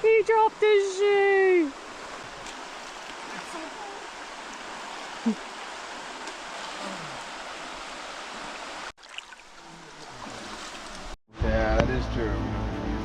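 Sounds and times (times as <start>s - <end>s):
river water rushing: 0.0s - 11.2s.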